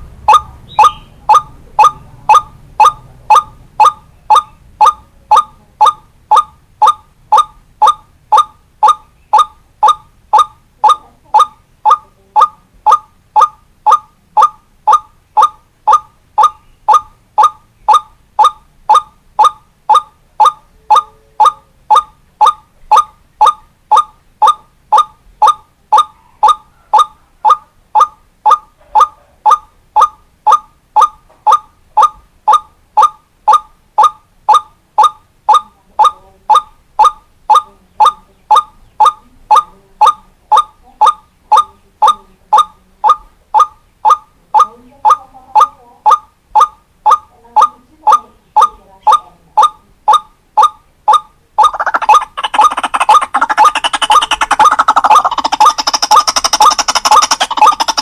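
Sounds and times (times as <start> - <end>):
repeated bird call note: 0.2 - 58.0.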